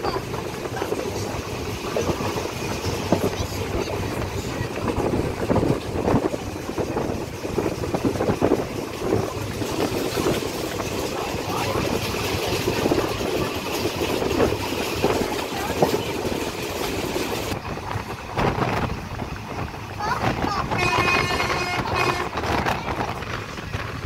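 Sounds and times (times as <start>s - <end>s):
train rumbling and rattling: 0.0s - 24.0s.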